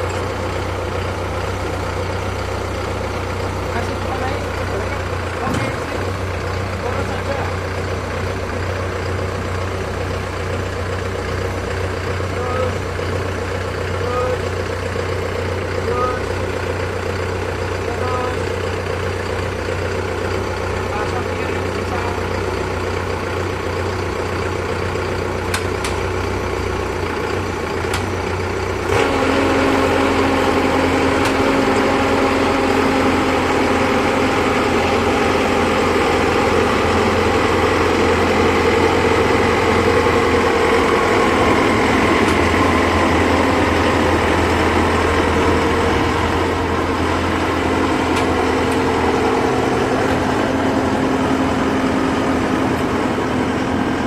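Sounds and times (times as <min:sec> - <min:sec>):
heavy engine running: 0:00.0 - 0:54.0
steady higher engine note: 0:00.0 - 0:54.0.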